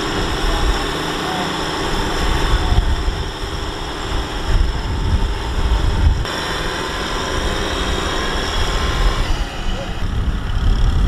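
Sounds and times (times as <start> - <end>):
diesel engines rumbling under load: 0.0 - 11.0.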